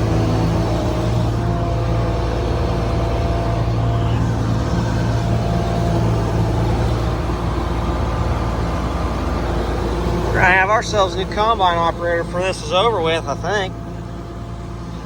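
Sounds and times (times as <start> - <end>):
combine harvester engine running: 0.0 - 15.0.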